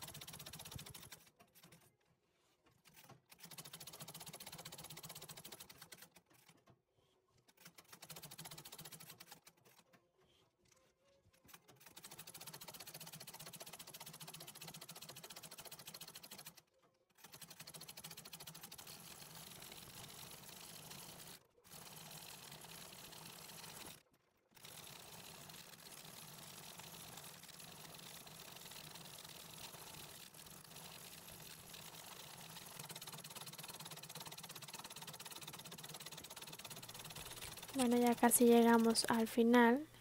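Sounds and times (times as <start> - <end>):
sewing machine needle clatter: 0.0 - 2.1, 2.7 - 39.8.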